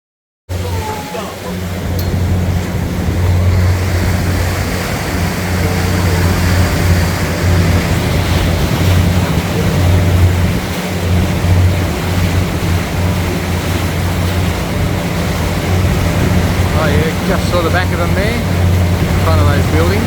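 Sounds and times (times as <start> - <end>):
boat engine drone: 0.5 - 20.0
sea water rushing: 0.5 - 20.0.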